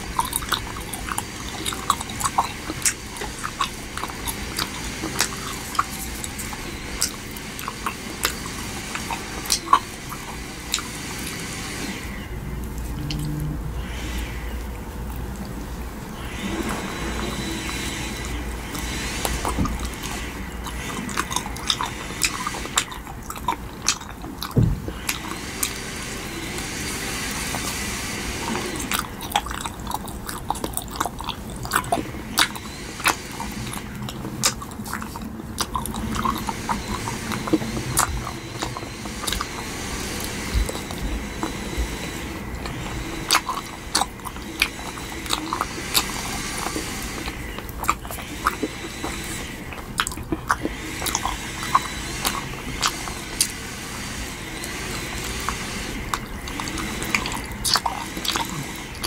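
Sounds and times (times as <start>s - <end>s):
chewing gummy candy: 0.0s - 59.0s.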